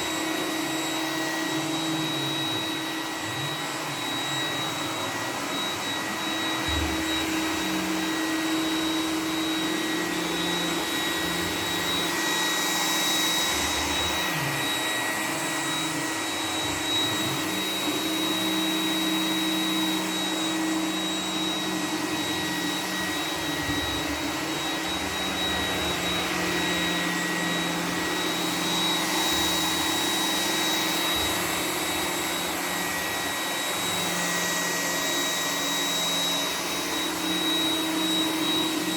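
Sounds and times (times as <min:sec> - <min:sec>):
robot vacuum fan whine: 0:00.0 - 0:38.9.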